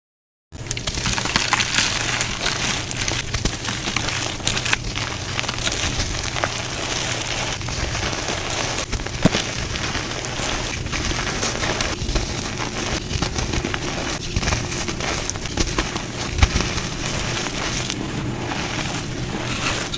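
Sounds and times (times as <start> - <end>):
chalk blocks crushed and crackling: 0.6 - 19.9.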